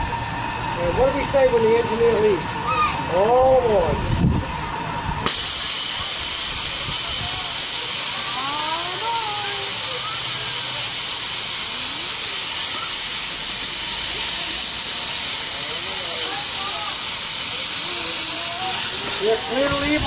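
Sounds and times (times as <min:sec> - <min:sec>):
steam venting hiss: 0:00.0 - 0:20.0.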